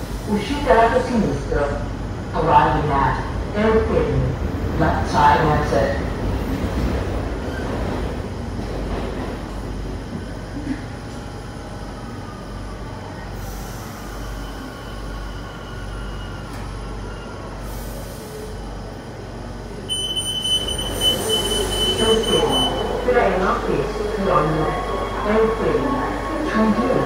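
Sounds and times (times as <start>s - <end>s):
metro train rumbling: 0.0s - 27.0s.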